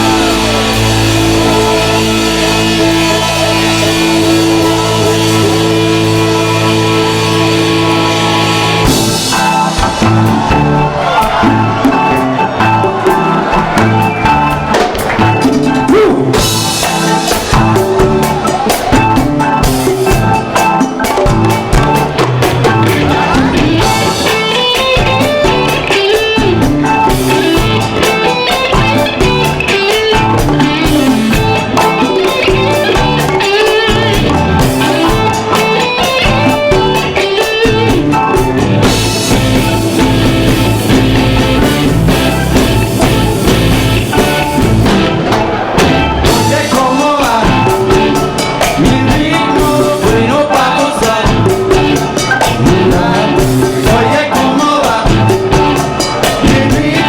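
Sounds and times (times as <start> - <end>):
bass: 0.0 - 57.0
drum kit: 0.0 - 57.0
electric guitar: 0.0 - 57.0
organ: 0.0 - 57.0.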